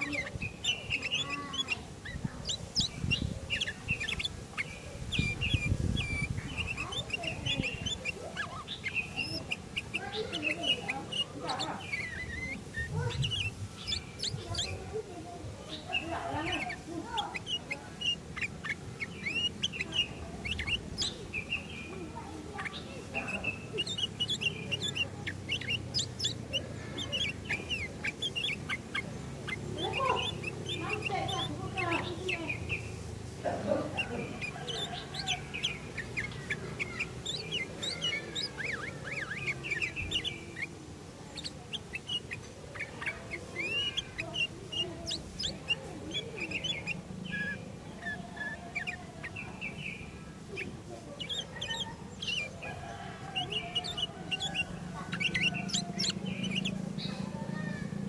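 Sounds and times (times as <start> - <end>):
bulbul chirping and whistling: 0.0 - 15.1, 15.8 - 33.0, 33.9 - 58.0.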